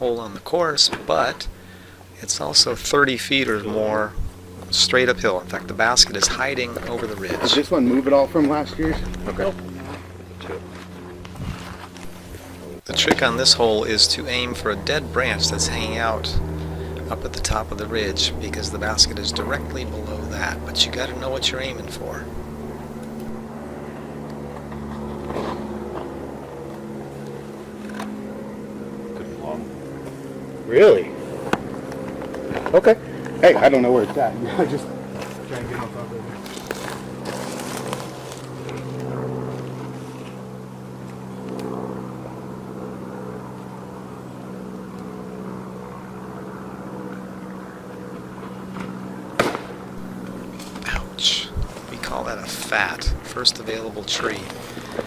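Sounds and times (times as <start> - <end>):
steady engine hum: 0.0 - 55.0.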